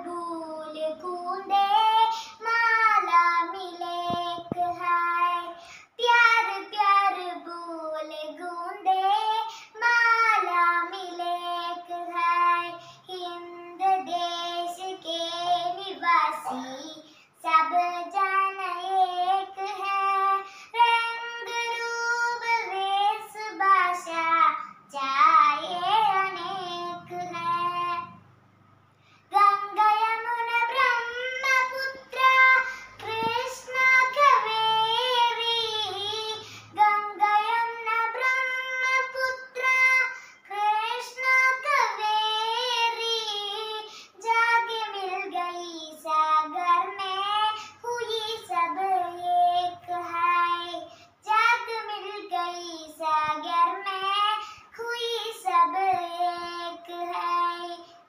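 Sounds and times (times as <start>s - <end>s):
girl singing unaccompanied: 0.0s - 58.0s.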